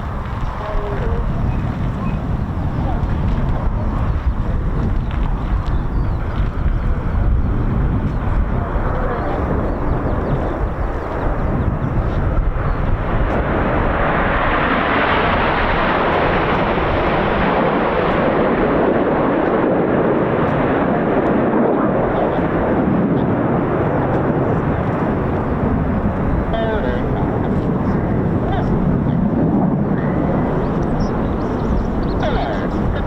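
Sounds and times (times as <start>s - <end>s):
jet aircraft roar passing: 0.0s - 33.0s
wind buffeting microphone: 0.0s - 33.0s.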